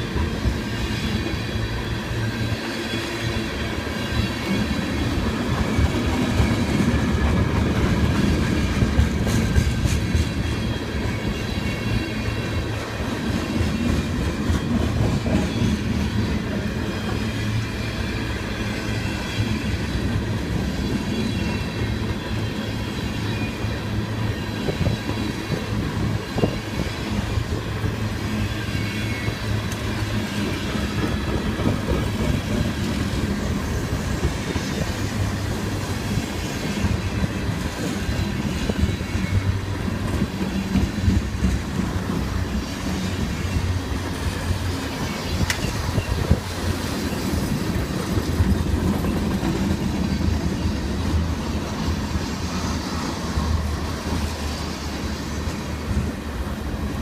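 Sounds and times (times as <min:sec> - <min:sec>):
freight train rumbling past: 0:00.0 - 0:57.0
steel wheels clattering on rails: 0:00.0 - 0:57.0.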